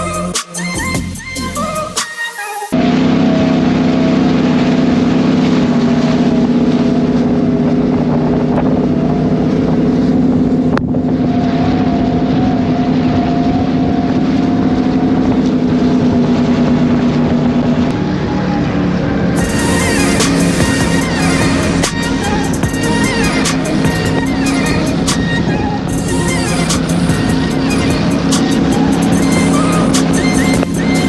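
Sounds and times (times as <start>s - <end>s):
powerboat engines droning: 2.8s - 31.0s.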